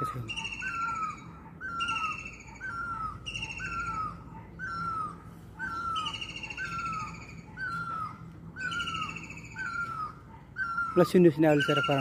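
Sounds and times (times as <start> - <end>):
bird fast twittering: 0.0 - 12.0
bird mewing call: 0.0 - 12.0.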